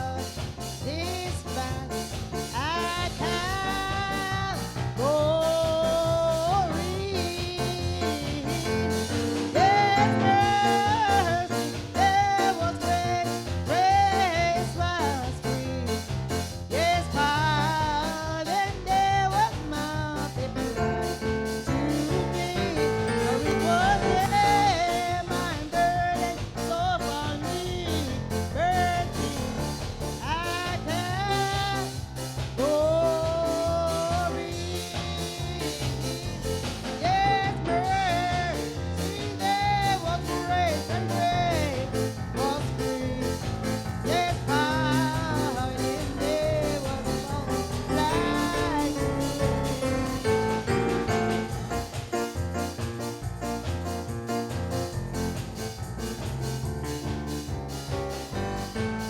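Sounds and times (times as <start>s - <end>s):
gospel band with steady beat: 0.0s - 59.0s.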